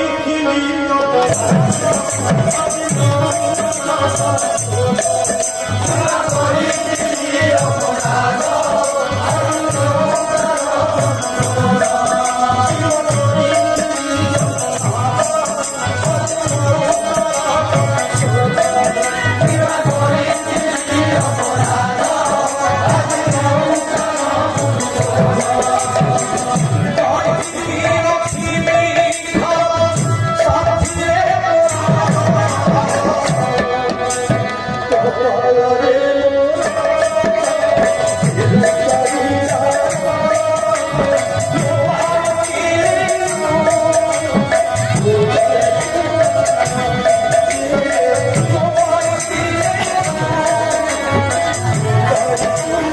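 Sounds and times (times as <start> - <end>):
group of voices singing: 0.0 - 52.9
jingling percussion: 0.0 - 52.9.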